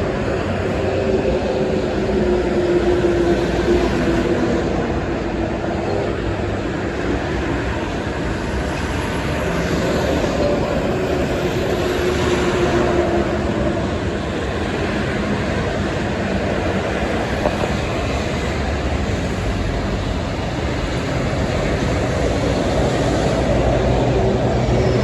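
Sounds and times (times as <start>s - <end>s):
heavy highway traffic: 0.0s - 25.0s.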